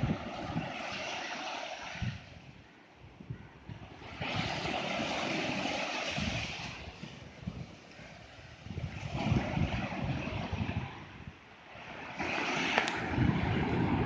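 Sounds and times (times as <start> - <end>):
small waves breaking on beach: 0.0 - 14.0
wind rumbling on microphone: 0.0 - 14.0.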